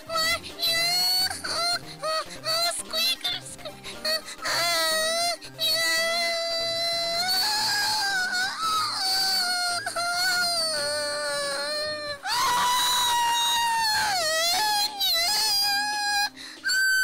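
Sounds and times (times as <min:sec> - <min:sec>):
high-pitched cartoon girl crying: 0:00.0 - 0:17.0.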